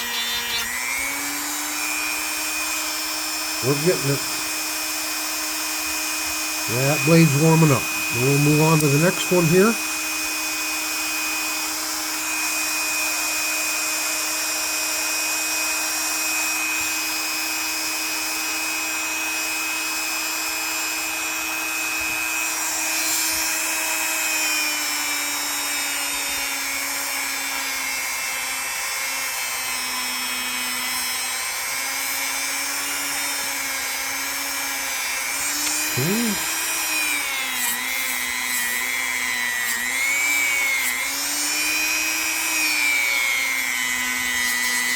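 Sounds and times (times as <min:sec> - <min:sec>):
small power tool polishing metal: 0:00.0 - 0:44.9.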